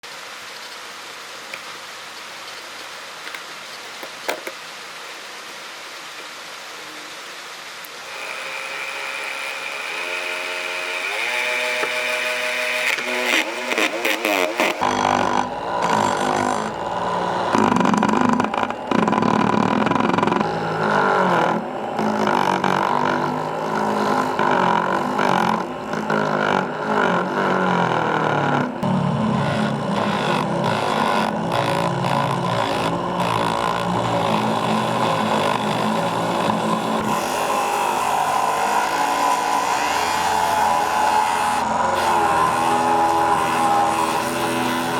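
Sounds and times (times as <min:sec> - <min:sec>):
small electric motor running: 0:08.0 - 0:44.9.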